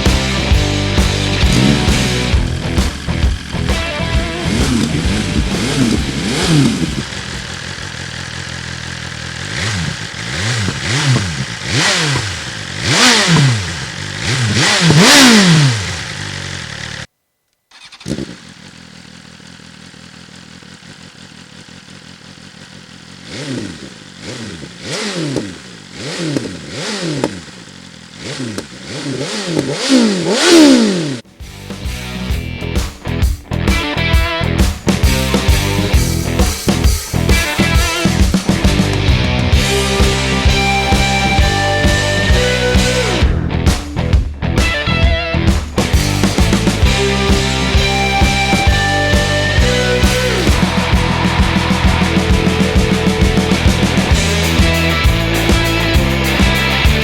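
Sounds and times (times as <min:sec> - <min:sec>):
motorcycle engine revving: 0:00.0 - 0:17.1, 0:17.7 - 0:57.0.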